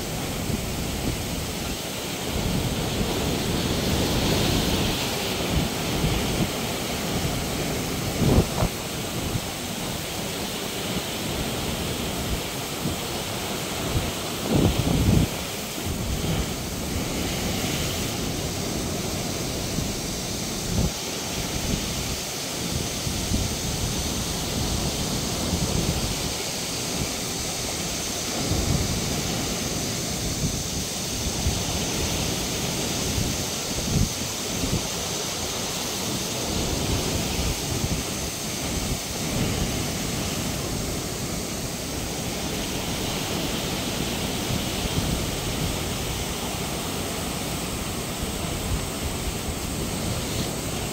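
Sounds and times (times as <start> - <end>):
waves breaking over rocks: 0.0 - 50.9
wind buffeting microphone: 0.0 - 50.9.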